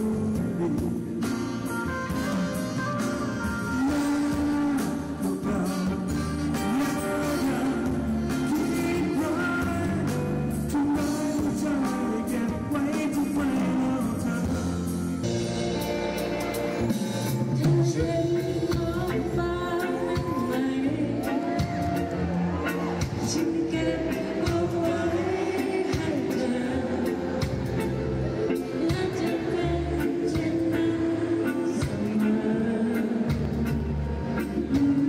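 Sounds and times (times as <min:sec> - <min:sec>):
man singing: 0:00.0 - 0:15.3, 0:17.2 - 0:35.0
drum kit: 0:00.0 - 0:35.0
electric bass guitar: 0:00.0 - 0:35.0
electric keyboard: 0:00.0 - 0:35.0.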